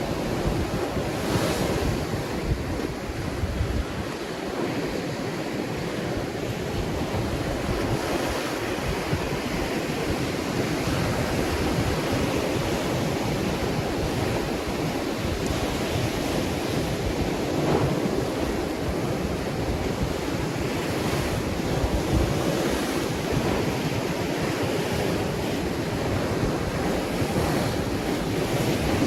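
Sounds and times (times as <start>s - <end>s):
ocean waves breaking on shore: 0.0s - 29.0s
wind buffeting microphone: 0.0s - 29.0s.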